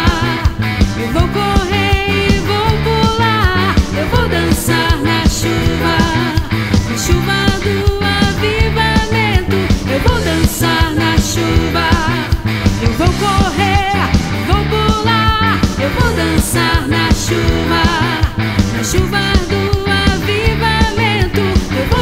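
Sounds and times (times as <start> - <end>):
drums and bass: 0.0 - 22.0
electric guitar lead: 0.0 - 22.0.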